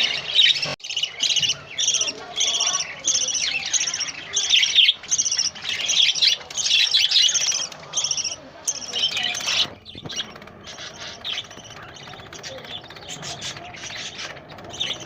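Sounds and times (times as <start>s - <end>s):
cage birds chirping: 0.0s - 15.0s.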